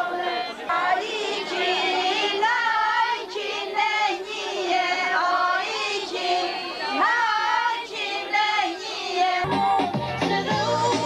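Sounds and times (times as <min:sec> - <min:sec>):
women singing folk song together: 0:00.0 - 0:09.5, 0:10.2 - 0:11.0.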